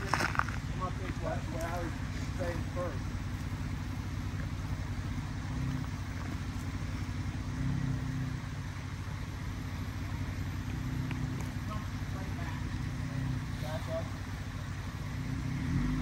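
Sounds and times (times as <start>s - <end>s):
engine running at low revs: 0.0s - 16.0s.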